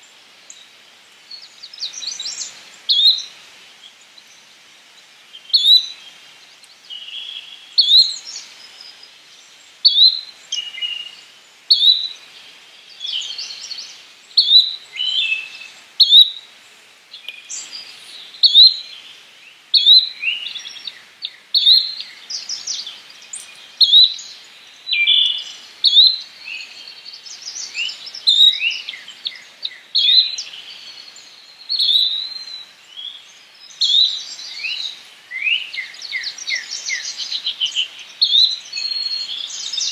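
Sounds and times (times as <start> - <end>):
birds chirping softly: 0.0 - 39.9.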